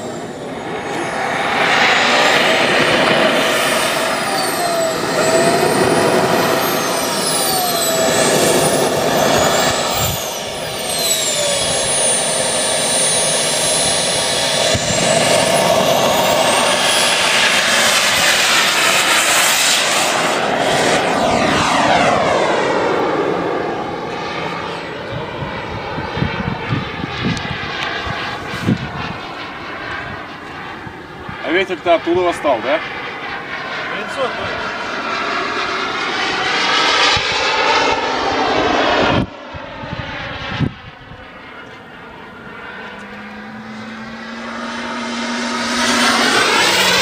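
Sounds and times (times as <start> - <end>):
model jet engine whine: 0.0 - 47.0.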